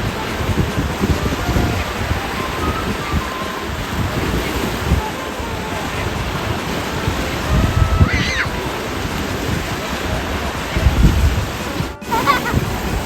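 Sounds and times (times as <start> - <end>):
surf washing on shore: 0.0 - 13.0.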